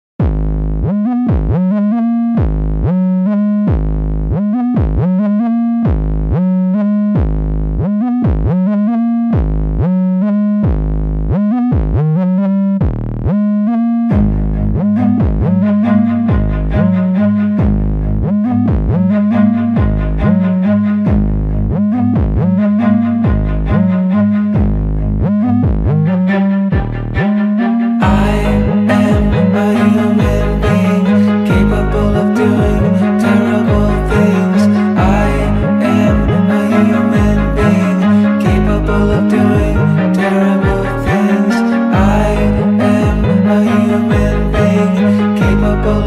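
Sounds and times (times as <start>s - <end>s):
deep sliding electronic note: 0.2s - 46.0s
synthesizer music: 0.2s - 46.0s.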